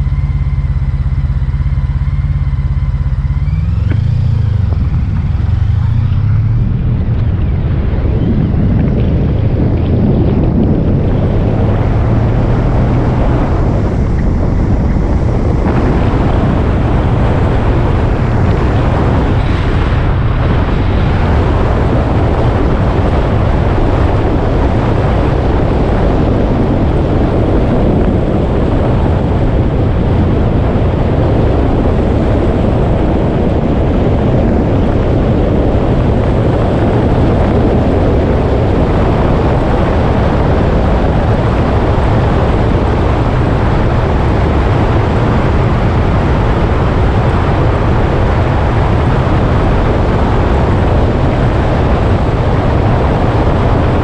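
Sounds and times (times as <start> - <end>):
motorcycle engine drone: 0.0 - 54.0
wind rushing over microphone: 0.0 - 54.0.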